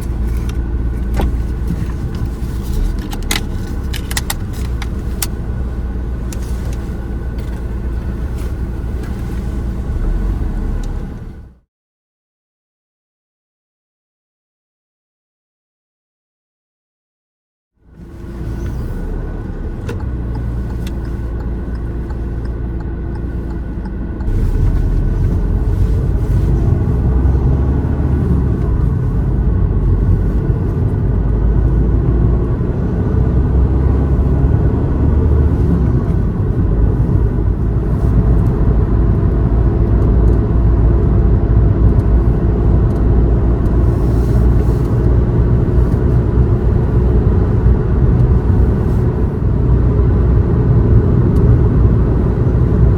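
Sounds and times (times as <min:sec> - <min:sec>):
car engine and tyres rumbling: 0:00.0 - 0:11.6, 0:17.8 - 0:52.9.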